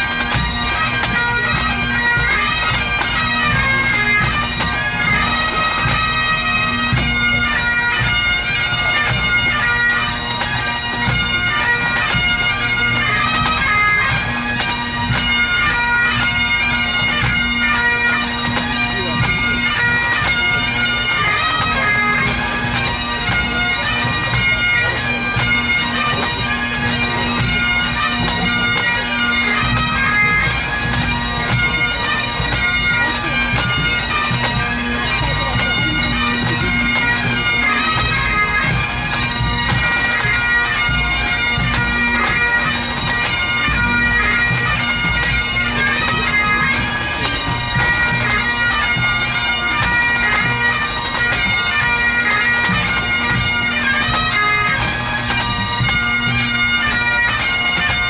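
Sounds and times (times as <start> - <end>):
bagpipes playing melody: 0.0 - 58.0
marching drums: 0.0 - 58.0.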